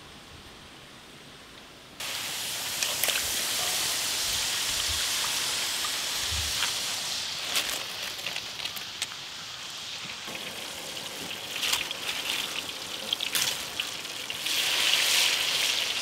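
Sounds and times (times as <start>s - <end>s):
oil crackles and pops: 2.0s - 3.7s, 4.8s - 16.0s
potatoes sizzling in oil: 2.0s - 16.0s.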